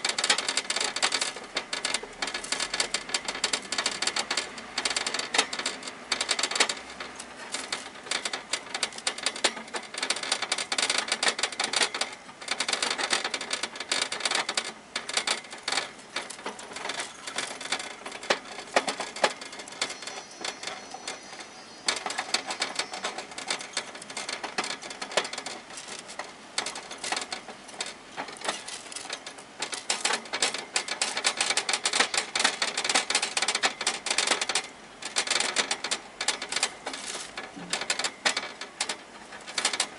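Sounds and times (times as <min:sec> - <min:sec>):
hamster gnawing on metal bars: 0:00.0 - 0:39.9.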